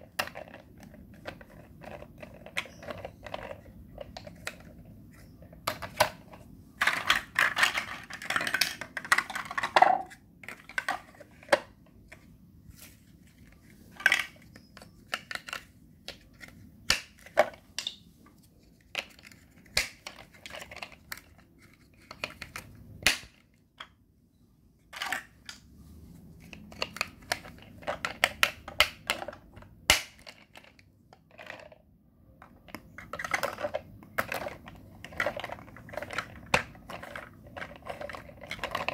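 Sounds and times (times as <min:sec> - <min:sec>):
plastic building blocks clattering: 0:00.0 - 0:11.8, 0:13.2 - 0:18.0, 0:18.8 - 0:24.0, 0:26.4 - 0:38.9.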